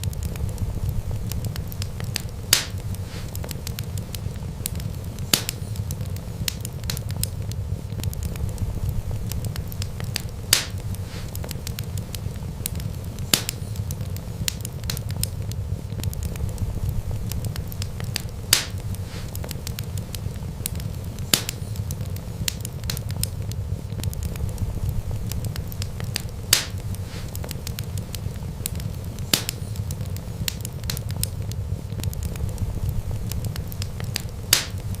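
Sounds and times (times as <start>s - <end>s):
low rumble of flame: 0.0s - 35.0s
sharp fire pops: 0.0s - 35.0s
wood fire crackling: 0.0s - 35.0s.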